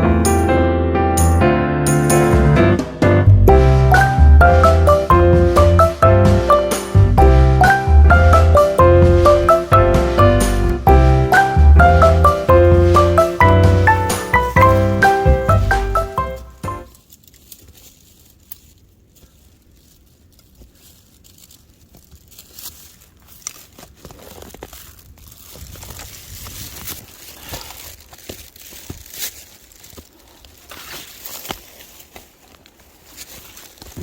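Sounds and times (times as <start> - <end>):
footsteps crunching in snow: 3.6 - 34.0.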